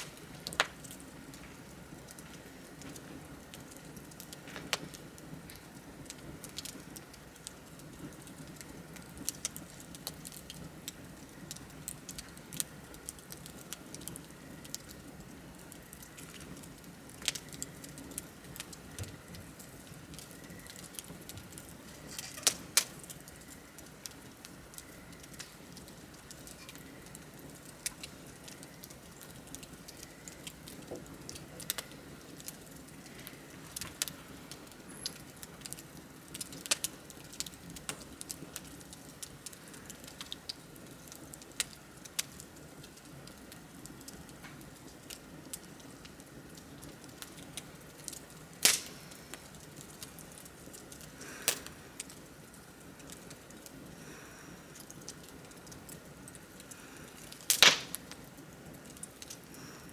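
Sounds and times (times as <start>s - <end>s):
bonfire crackling and popping: 0.0s - 59.9s
flame hiss: 0.0s - 59.9s.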